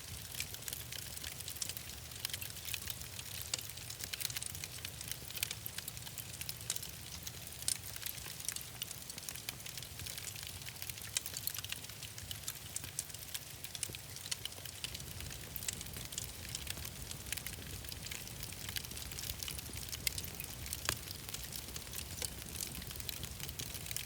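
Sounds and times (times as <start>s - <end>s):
low steady fire rumble: 0.0s - 24.0s
wood fire popping and snapping: 0.0s - 24.0s.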